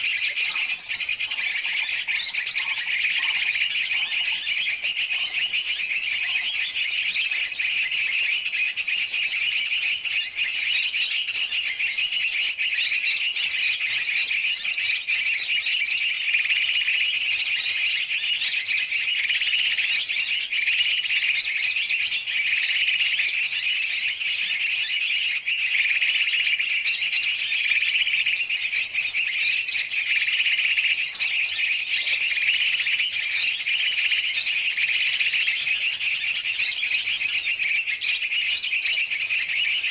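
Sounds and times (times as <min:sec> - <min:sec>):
small birds chirping and chattering: 0:00.0 - 0:39.9.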